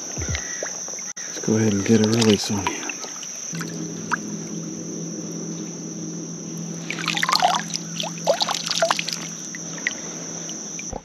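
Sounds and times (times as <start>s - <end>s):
water splashing and dripping: 0.1s - 4.9s, 5.7s - 11.0s.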